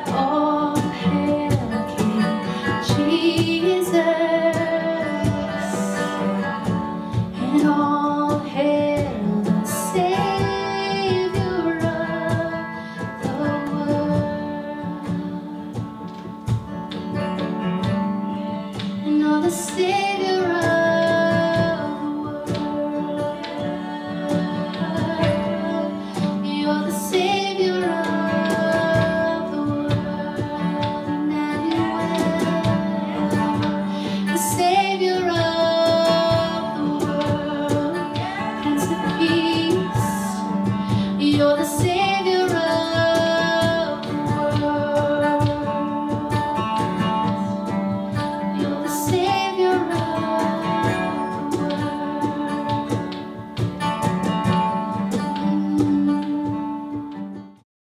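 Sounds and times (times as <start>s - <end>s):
strummed acoustic guitar: 0.0s - 57.6s
woman singing into a microphone: 0.0s - 57.6s.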